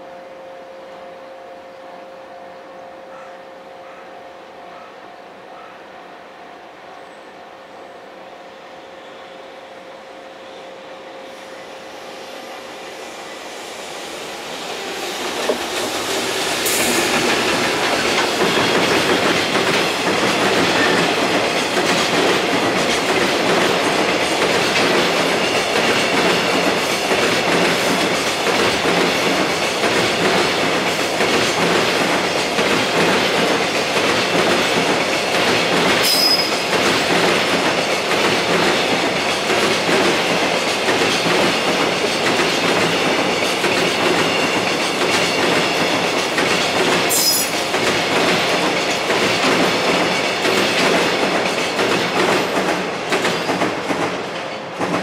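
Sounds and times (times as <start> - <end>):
freight train wheels rumbling: 6.7 - 55.0.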